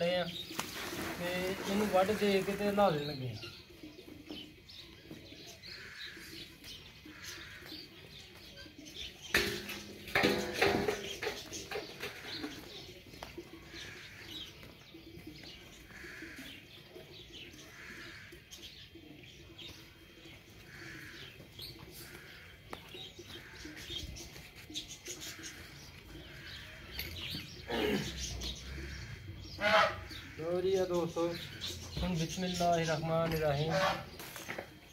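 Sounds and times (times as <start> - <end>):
farmyard animal call: 1.5 - 34.9.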